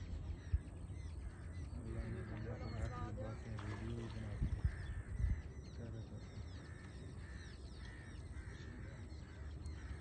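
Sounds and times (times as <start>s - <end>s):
birds chirping and cawing: 0.0s - 10.0s.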